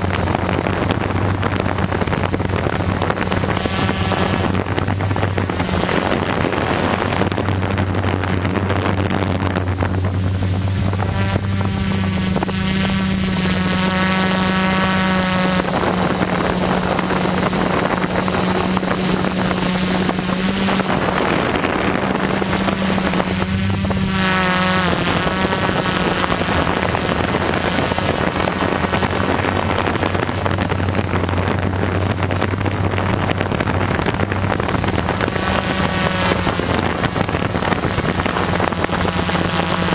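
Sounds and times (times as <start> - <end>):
quadcopter propellers buzzing: 0.0 - 39.9
wind noise: 0.0 - 39.9.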